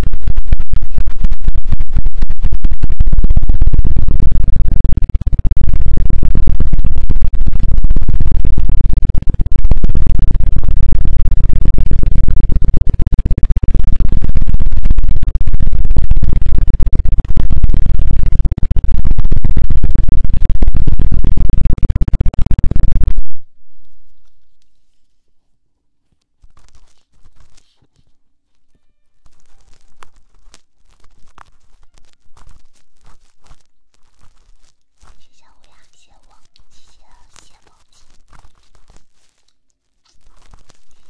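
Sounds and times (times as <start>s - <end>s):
scratching on microphone: 0.0s - 25.3s, 26.4s - 28.2s, 29.2s - 41.0s.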